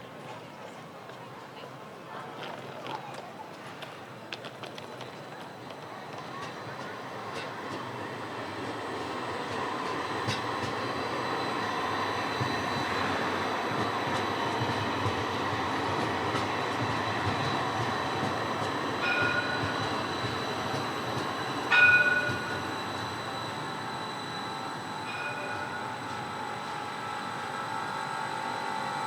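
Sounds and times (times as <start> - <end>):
tram rolling on rails: 0.0 - 29.0.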